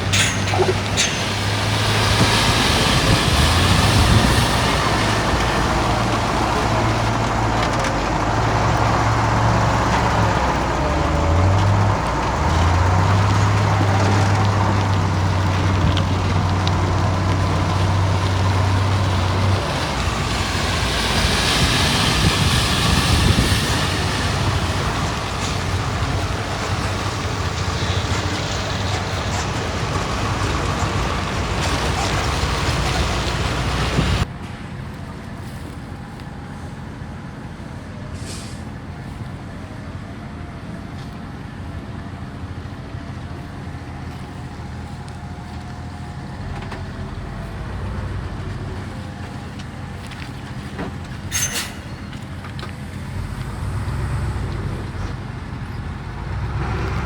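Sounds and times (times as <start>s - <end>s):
mechanical rumble and clatter: 0.0s - 36.5s, 42.6s - 57.0s
diesel machinery engine: 0.0s - 57.0s.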